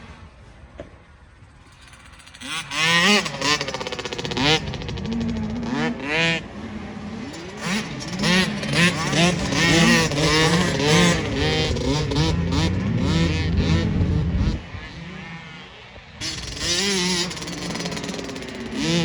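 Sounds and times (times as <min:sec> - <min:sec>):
motocross engines revving: 0:01.4 - 0:19.0.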